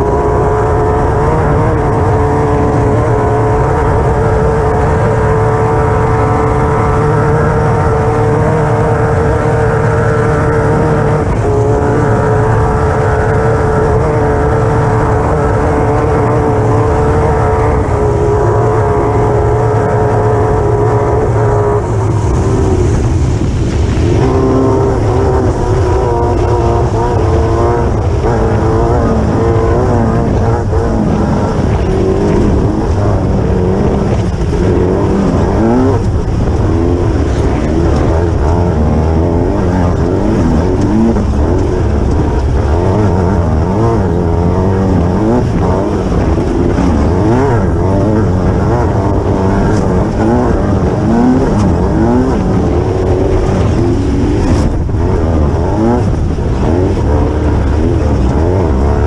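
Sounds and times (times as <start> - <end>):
buggy engine revving: 0.0 - 59.0
low rumble: 0.0 - 59.0.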